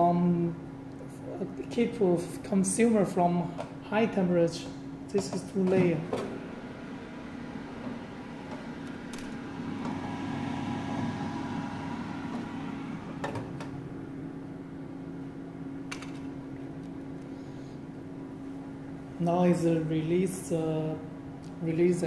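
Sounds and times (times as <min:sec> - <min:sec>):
oven fan humming: 0:00.0 - 0:22.0.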